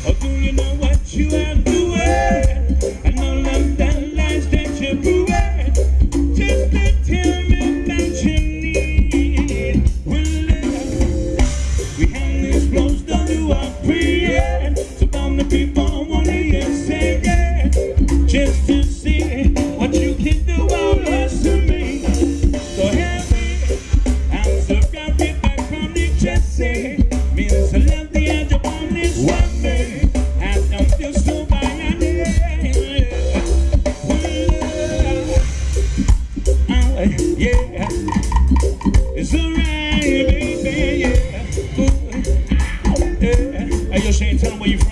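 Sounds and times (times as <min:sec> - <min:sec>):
bass: 0:00.0 - 0:44.9
drum kit: 0:00.0 - 0:44.9
guitars: 0:00.0 - 0:44.9
person singing lead vocals: 0:00.0 - 0:44.9
ska band playing: 0:00.0 - 0:44.9.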